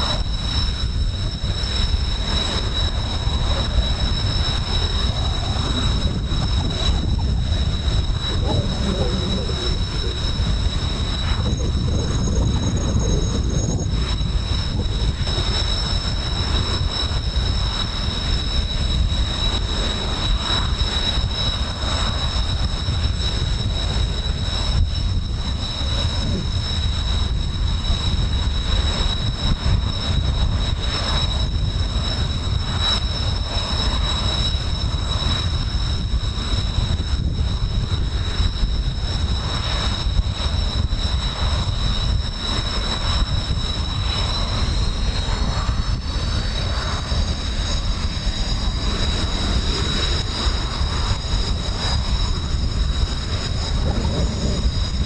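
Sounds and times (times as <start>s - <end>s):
high whine: 0.0s - 55.0s
jet engines running: 0.0s - 55.0s
wind buffeting microphone: 0.0s - 55.0s.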